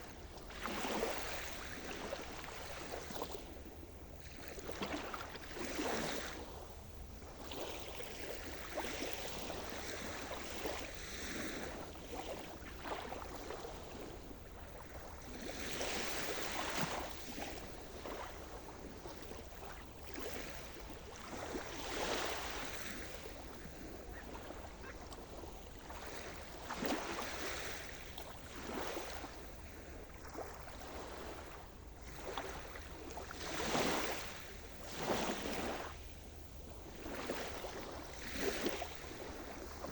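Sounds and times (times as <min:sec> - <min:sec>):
waves breaking: 0:00.0 - 0:03.6, 0:07.4 - 0:39.9.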